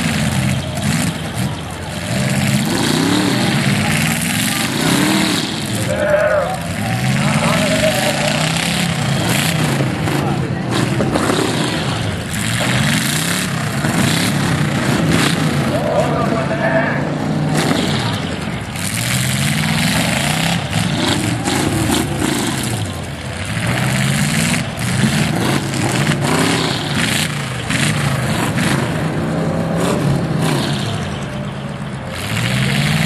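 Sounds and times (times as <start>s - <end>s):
car engines revving hard: 0.0s - 33.0s
cars knocking and crunching: 0.0s - 33.0s.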